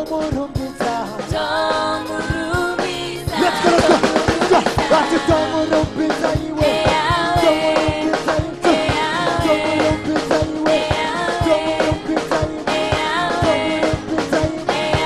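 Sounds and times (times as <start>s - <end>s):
band with steady drum beat: 0.0s - 15.0s
group singing gospel song: 1.0s - 15.0s.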